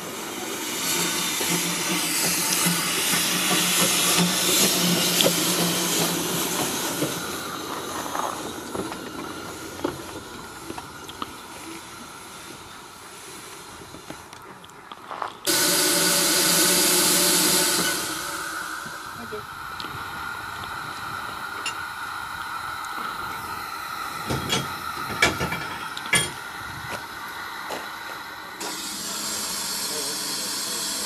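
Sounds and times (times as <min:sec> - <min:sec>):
loud rush of steam: 0:00.0 - 0:14.4, 0:15.5 - 0:31.0
steam locomotive hissing: 0:00.0 - 0:31.0.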